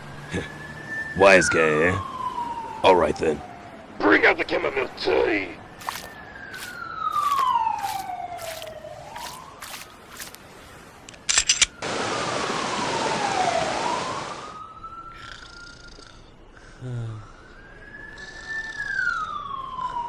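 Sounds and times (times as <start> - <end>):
police siren wailing: 0.1 - 4.0, 4.6 - 10.4, 11.5 - 15.6, 17.2 - 20.0.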